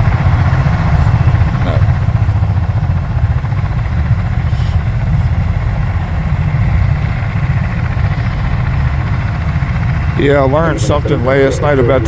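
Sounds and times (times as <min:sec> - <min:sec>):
aircraft engines idling: 0:00.0 - 0:12.0.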